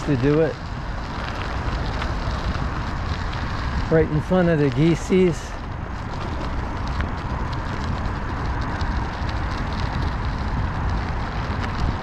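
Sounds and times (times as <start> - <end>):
tyre and road noise: 0.0 - 12.0
wind rumbling on microphone: 0.0 - 12.0.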